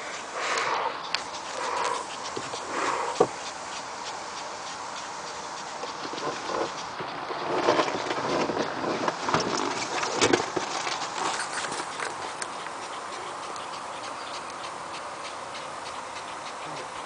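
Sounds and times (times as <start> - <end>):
faint ticking: 0.0 - 17.0
steady hiss: 0.0 - 17.0.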